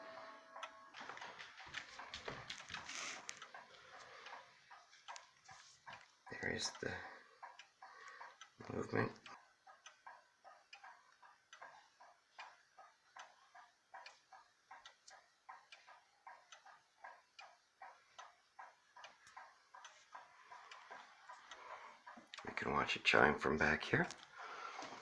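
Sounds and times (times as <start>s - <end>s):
grandfather clock ticking: 0.0s - 25.0s.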